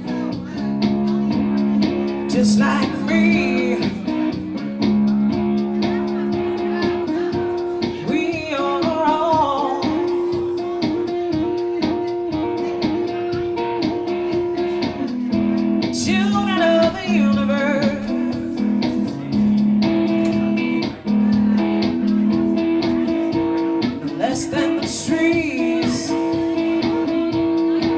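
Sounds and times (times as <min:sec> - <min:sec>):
electric guitar chords: 0:00.0 - 0:27.9
person singing: 0:00.0 - 0:27.9.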